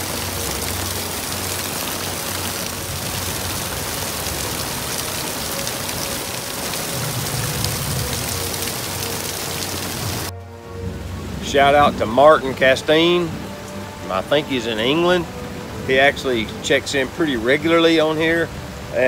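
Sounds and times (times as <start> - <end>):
faint background music: 0.0 - 19.0
heavy rain on pavement: 0.0 - 19.0
water running off awning: 0.0 - 19.0.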